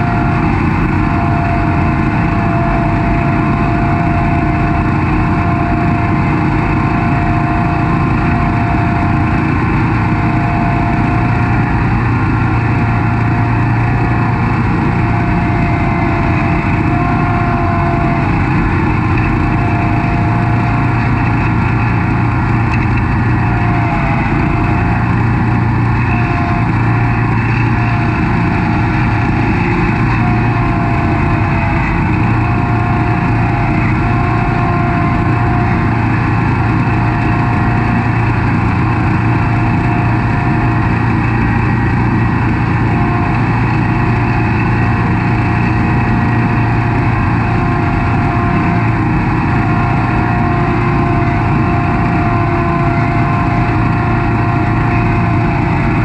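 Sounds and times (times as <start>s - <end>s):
mower engine hum: 0.0s - 56.0s
steady high whine: 0.0s - 56.0s.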